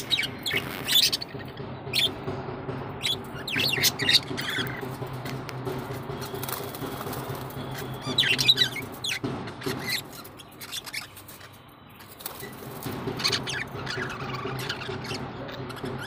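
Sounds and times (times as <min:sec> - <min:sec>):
budgerigars chirping: 0:00.0 - 0:02.4, 0:03.0 - 0:16.0.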